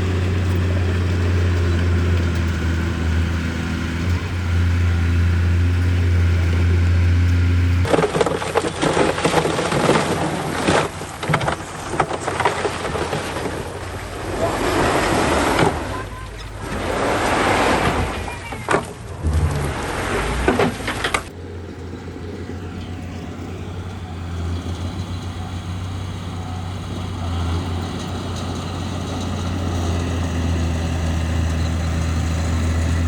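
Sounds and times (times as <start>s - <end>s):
diesel machine engine drone: 0.0s - 33.0s
dirt and stone crunching: 0.0s - 33.0s.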